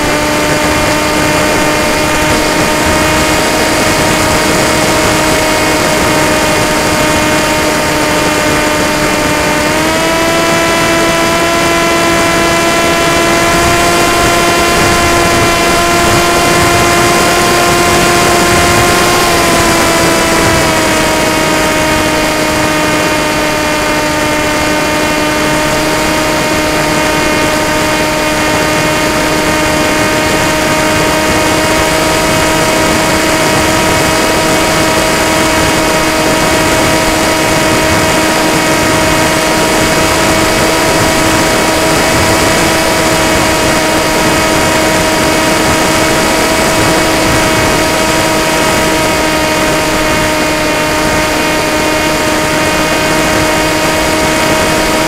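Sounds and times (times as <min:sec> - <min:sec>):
model aircraft motor whine: 0:00.0 - 0:55.0
wind on microphone: 0:00.0 - 0:55.0.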